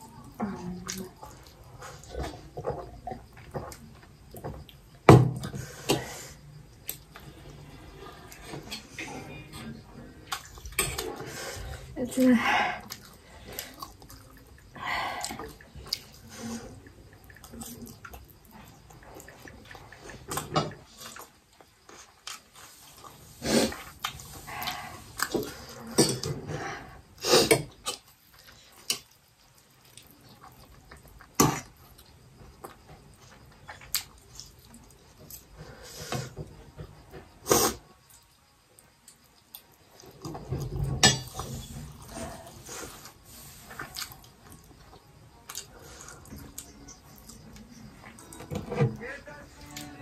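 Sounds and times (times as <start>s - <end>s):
slurping and chewing: 5.4s - 38.2s, 39.1s - 48.9s.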